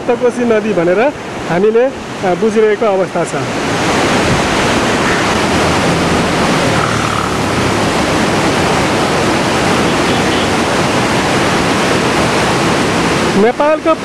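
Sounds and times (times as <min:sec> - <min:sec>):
floodwater rushing through gates: 0:01.1 - 0:14.0.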